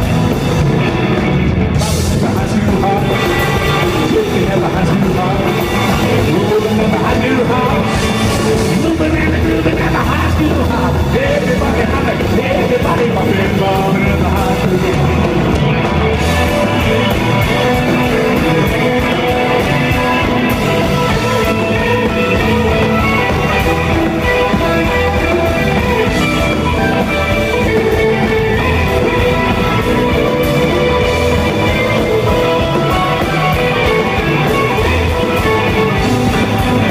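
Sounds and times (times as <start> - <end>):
bass guitar: 0.0 - 36.9
drum kit: 0.0 - 36.9
electric guitars: 0.0 - 36.9.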